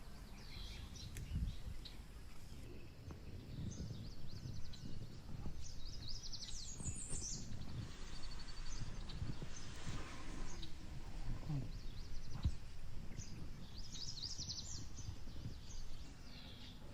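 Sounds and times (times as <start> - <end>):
birds chirping: 0.0 - 16.9
high repeated bird calls: 0.0 - 16.9
low rumbling noise: 0.0 - 16.9.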